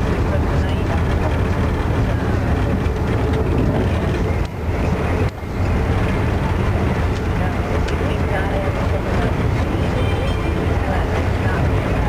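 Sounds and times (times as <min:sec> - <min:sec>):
rushing noise: 0:00.0 - 0:12.0
train wheels rumbling on rail: 0:00.0 - 0:12.0.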